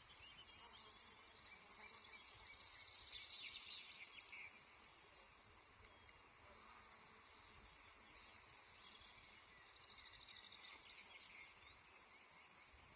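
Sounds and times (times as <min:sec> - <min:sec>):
faint bird chirps and calls: 0:00.0 - 0:12.9
microphone hiss and low rumble: 0:02.1 - 0:12.9.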